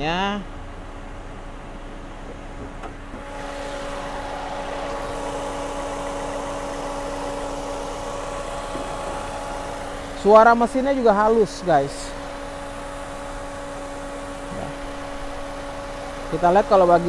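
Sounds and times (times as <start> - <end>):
car engine idling: 0.4 - 17.0.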